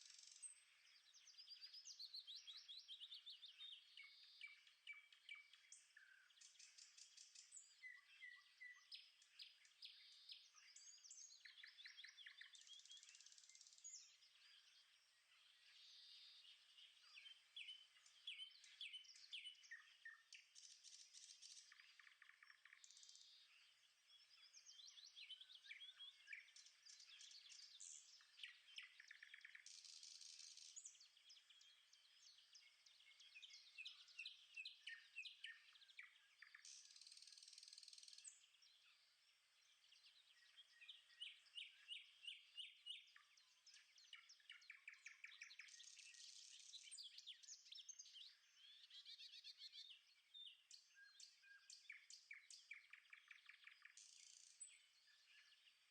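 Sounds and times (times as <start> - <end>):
birds chirping and singing: 0.0 - 55.9.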